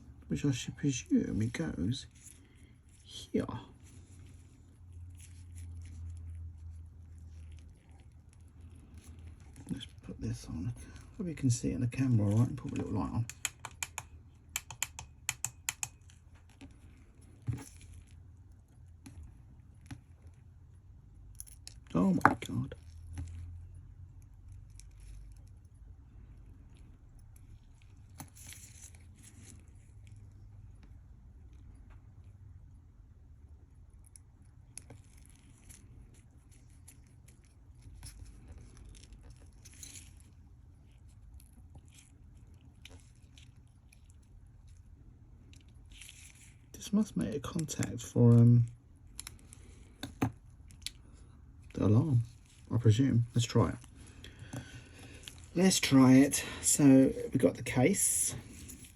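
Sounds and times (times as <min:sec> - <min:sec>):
small clicks and scrapes of watch parts: 0:01.1 - 0:03.2, 0:03.8 - 0:11.2, 0:12.0 - 0:32.8, 0:33.7 - 0:58.9.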